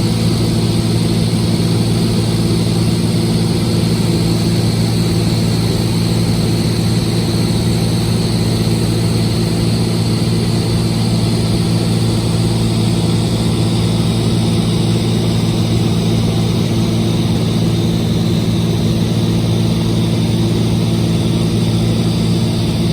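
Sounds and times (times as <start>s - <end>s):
propeller plane engine droning: 0.0s - 22.9s.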